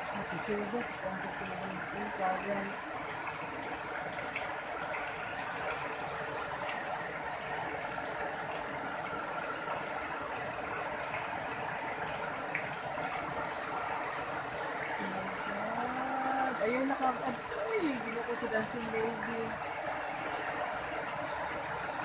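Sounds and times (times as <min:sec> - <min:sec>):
heavy rain on standing water: 0:00.0 - 0:22.0
water gushing from drain pipe: 0:00.0 - 0:22.0.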